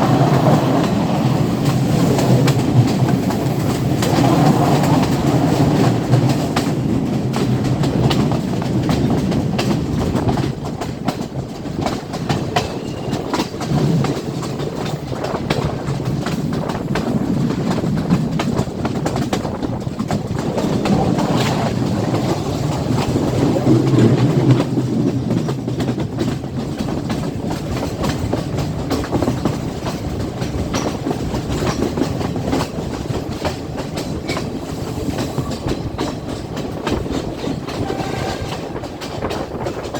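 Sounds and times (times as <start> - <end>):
train rolling noise: 0.0 - 39.9
wheels clicking over rail joints: 0.0 - 39.9.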